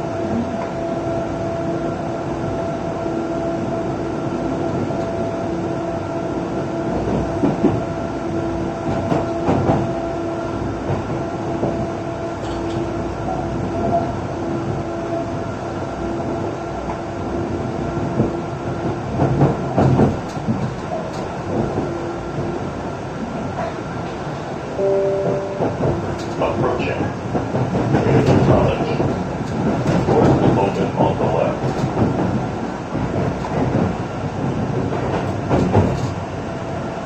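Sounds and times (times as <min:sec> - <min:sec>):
subway train rumble and whine: 0:00.0 - 0:37.0.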